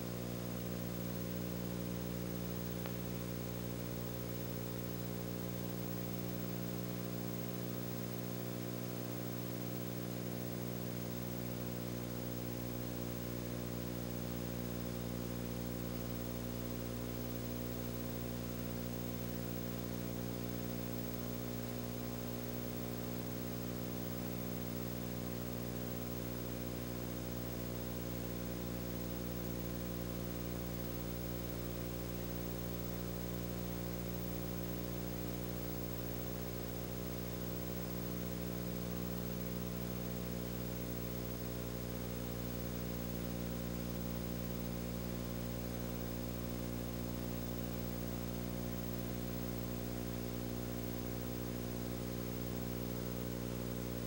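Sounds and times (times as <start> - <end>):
steady low hum with hiss: 0.0 - 54.0.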